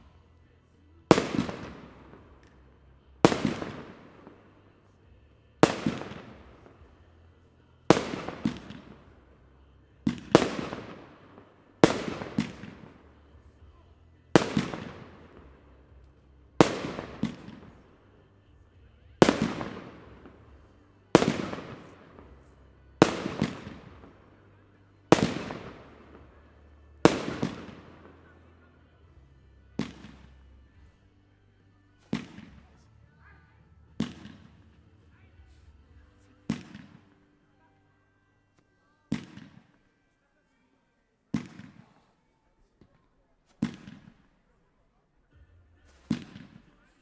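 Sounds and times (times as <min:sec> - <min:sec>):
fireworks bangs with echo: 0:01.0 - 0:31.0, 0:32.0 - 0:33.0, 0:33.9 - 0:37.3, 0:39.1 - 0:39.9, 0:41.3 - 0:42.2, 0:42.8 - 0:44.4, 0:45.8 - 0:47.0.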